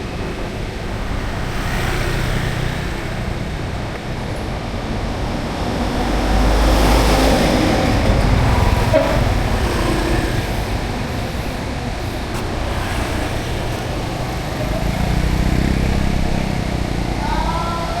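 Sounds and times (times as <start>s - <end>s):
vehicle passing close by: 0.0s - 17.7s
street traffic: 0.0s - 18.0s.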